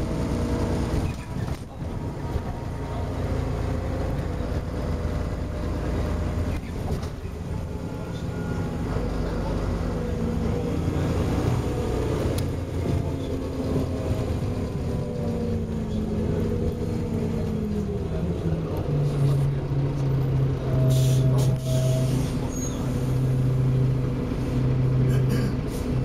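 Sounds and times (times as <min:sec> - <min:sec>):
bus engine running: 0:00.0 - 0:26.0.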